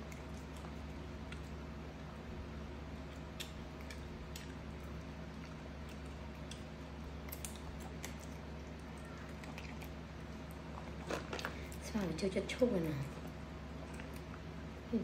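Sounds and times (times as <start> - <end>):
monkey chewing fruit: 0.0 - 15.0
steady low hum: 0.0 - 15.0.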